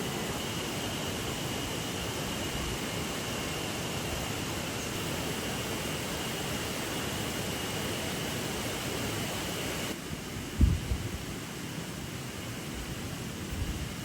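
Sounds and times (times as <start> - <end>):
river water running: 0.0 - 14.0.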